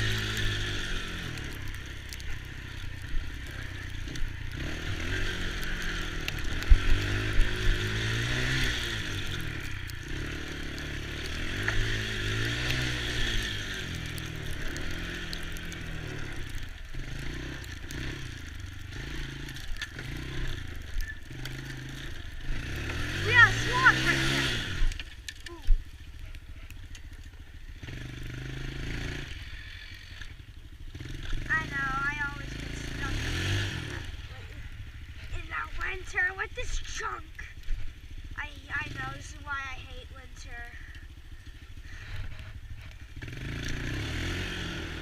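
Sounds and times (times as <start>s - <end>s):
small atv engine revving: 0.0s - 45.0s.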